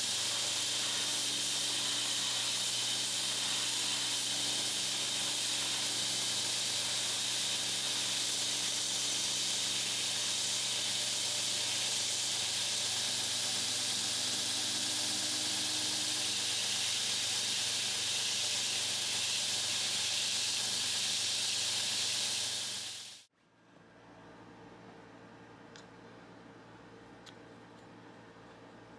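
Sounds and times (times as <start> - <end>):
grinder belt hissing: 0.0 - 23.3.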